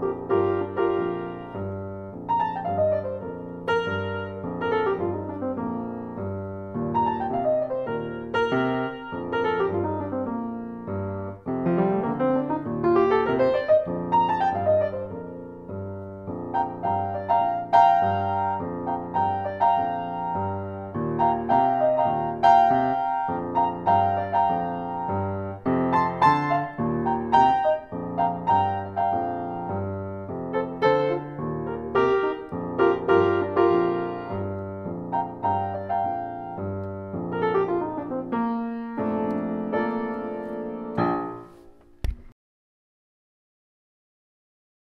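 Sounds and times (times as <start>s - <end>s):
boogie-woogie piano: 0.0s - 42.2s.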